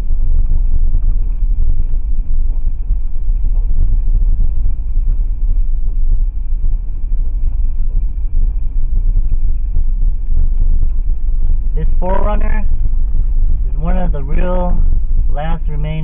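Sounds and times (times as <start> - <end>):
low in-cabin rumble: 0.0 - 16.0.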